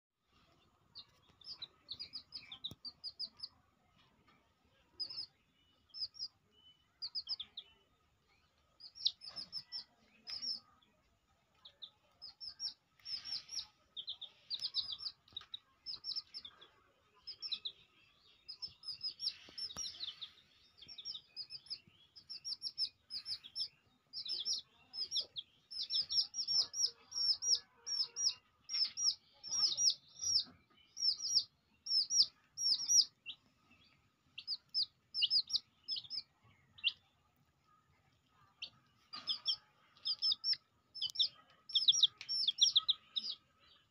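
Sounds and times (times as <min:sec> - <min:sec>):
small birds chirping: 0:00.2 - 0:43.9.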